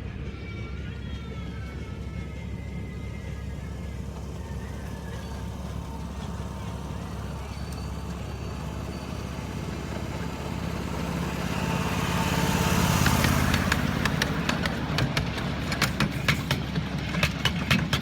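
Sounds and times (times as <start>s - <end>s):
miniature train hum: 0.0s - 18.0s
wheels clicking on rail joints: 0.0s - 18.0s.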